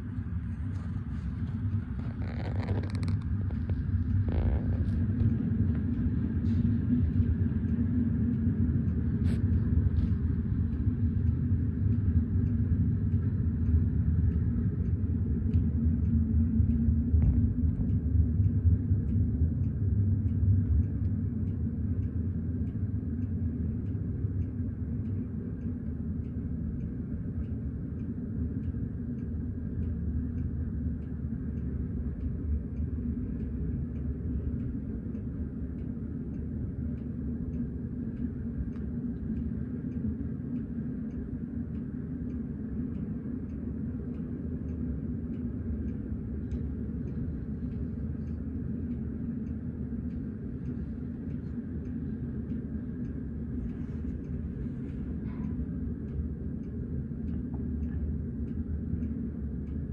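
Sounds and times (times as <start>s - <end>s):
faint regular clicking: 0.3s - 59.9s.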